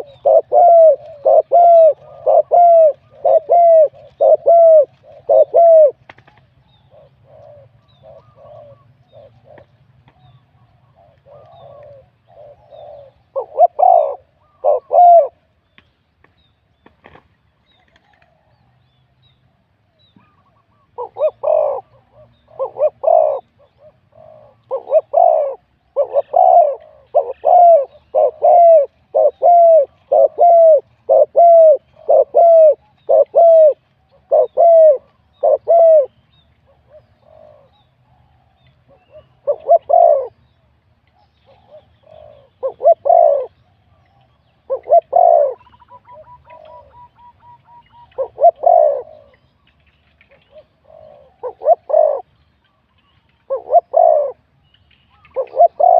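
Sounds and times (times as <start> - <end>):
dove cooing: 0.0 - 15.5, 20.2 - 40.5, 41.2 - 49.5, 50.3 - 52.4, 53.4 - 54.5, 55.2 - 55.9.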